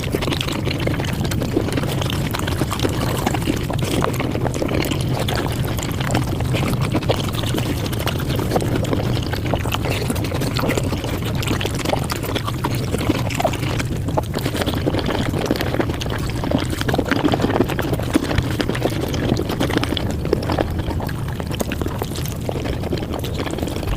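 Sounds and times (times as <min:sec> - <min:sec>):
sped-up chewing and mouth noises: 0:00.0 - 0:23.9.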